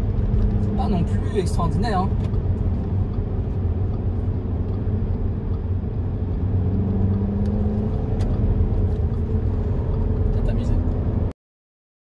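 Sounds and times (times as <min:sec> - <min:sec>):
car engine and tyre rumble: 0:00.0 - 0:11.3.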